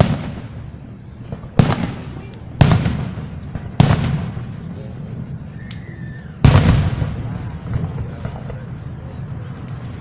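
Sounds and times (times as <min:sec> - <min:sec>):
fireworks booms: 0:00.0 - 0:10.0
rumbling echo: 0:00.0 - 0:10.0.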